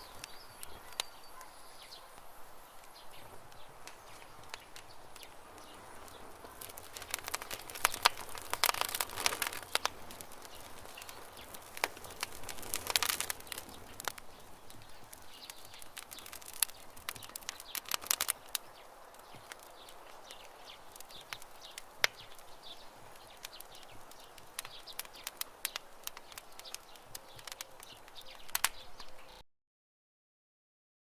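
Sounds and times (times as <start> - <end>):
campfire crackling: 0.0 - 29.4.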